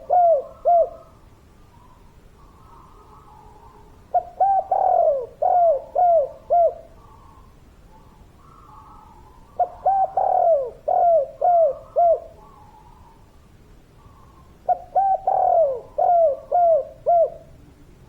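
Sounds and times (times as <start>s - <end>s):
dove cooing: 0.0s - 13.3s, 14.0s - 17.6s.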